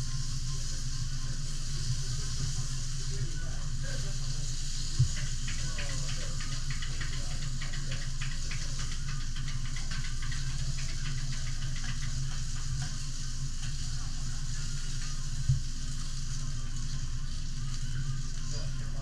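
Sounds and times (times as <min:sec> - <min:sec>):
steak sizzling on griddle: 0:00.0 - 0:19.0.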